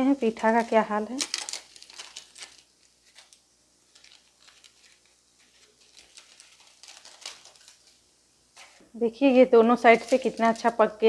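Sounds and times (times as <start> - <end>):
dry leaves crinkling: 0.0 - 8.0, 9.7 - 11.0.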